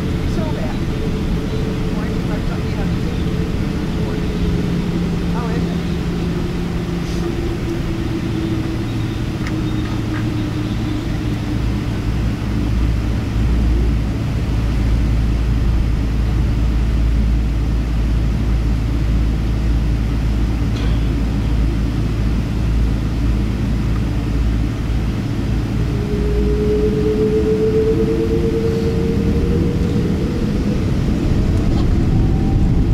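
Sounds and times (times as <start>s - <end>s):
airliner engines humming in cabin: 0.0s - 32.9s.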